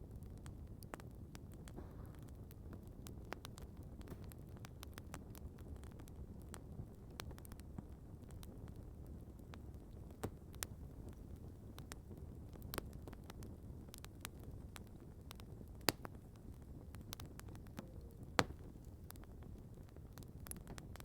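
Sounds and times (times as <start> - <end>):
campfire crackling: 0.0 - 21.0
low steady fire rumble: 0.0 - 21.0.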